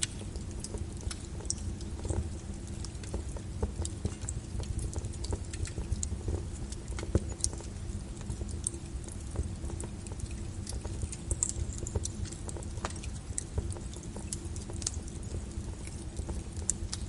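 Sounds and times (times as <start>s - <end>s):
low rumble of flame: 0.0s - 17.0s
wood fire crackling: 0.0s - 17.0s.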